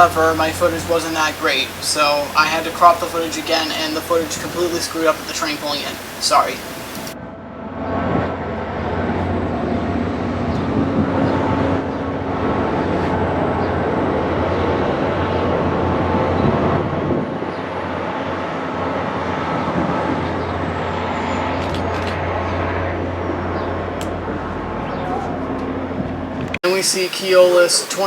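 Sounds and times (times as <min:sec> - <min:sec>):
diesel locomotive engine droning: 0:00.0 - 0:28.0
rail and wheel noise: 0:00.0 - 0:28.0.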